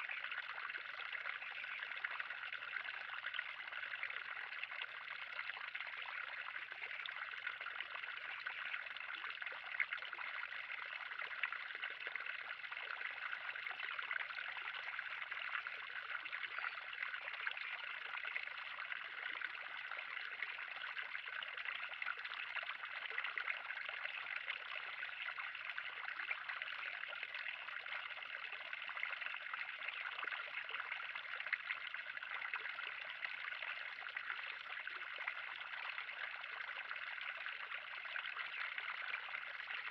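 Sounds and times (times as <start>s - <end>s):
pond water trickling and splashing: 0.0s - 39.9s.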